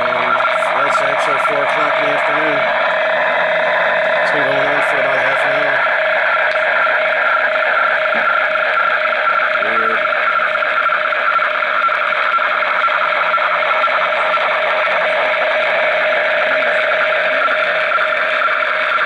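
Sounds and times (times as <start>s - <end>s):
low hum-like tone: 0.0s - 19.0s
shortwave radio noisy signal: 0.0s - 19.0s
two constant tones: 0.0s - 19.0s.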